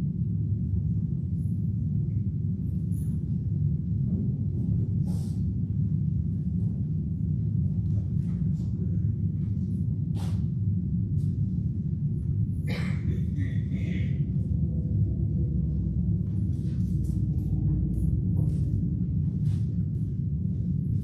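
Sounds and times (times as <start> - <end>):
low room rumble: 0.0 - 21.0.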